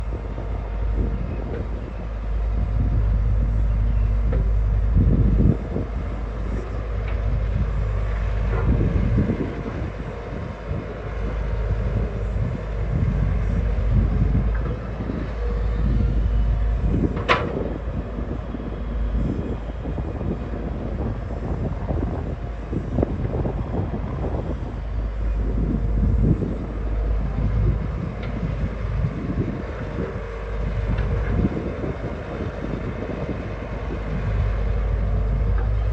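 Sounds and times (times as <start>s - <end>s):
excavator diesel engine rumbling: 0.0s - 35.9s.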